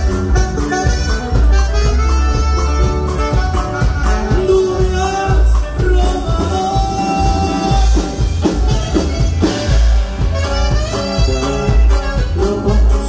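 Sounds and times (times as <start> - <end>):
saxophone: 0.0 - 5.4, 7.0 - 13.0
button accordion: 0.0 - 13.0
drums: 0.0 - 13.0
heavy bass line: 0.0 - 13.0.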